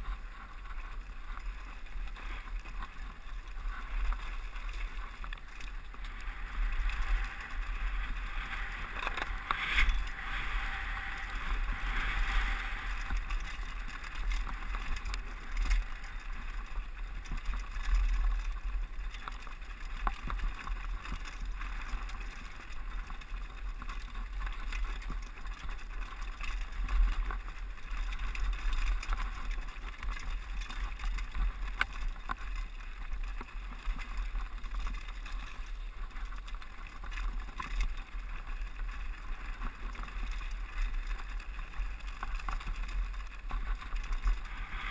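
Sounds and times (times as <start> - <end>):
bike rattling and knocking: 0.0 - 44.9
wind rumbling on microphone: 0.0 - 44.9.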